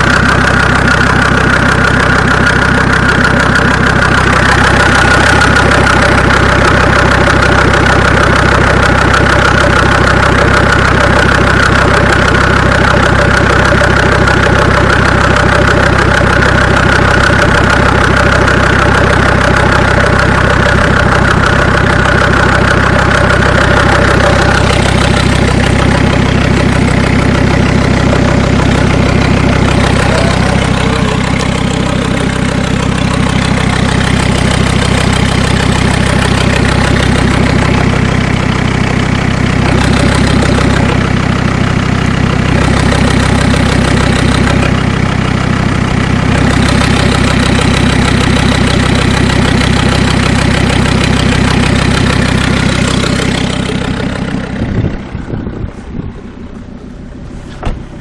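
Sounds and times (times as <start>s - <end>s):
diesel engine idling with knock: 0.0s - 58.0s.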